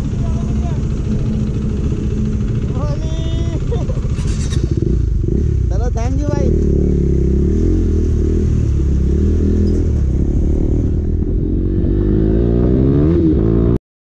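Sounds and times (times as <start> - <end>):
motorcycle engine accelerating: 0.0 - 13.8.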